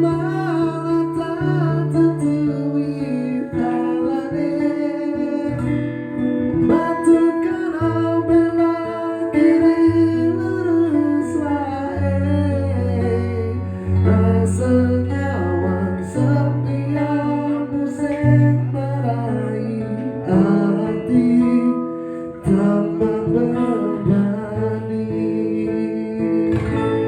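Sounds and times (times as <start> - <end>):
held bass notes: 0.0 - 21.6, 22.4 - 27.0
plucked acoustic guitar: 0.0 - 27.0.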